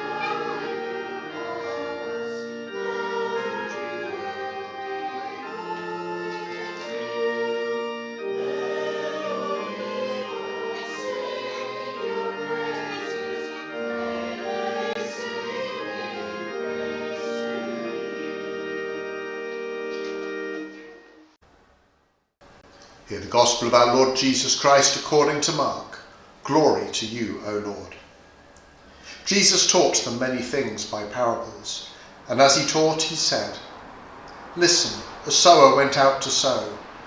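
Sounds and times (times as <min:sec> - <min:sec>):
congregation singing: 0:00.0 - 0:21.4, 0:22.9 - 0:37.0
organ chords: 0:00.0 - 0:21.7, 0:22.4 - 0:37.0.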